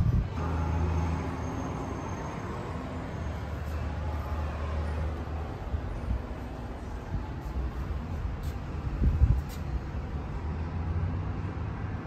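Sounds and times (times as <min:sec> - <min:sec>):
faint city traffic: 0:00.0 - 0:12.0.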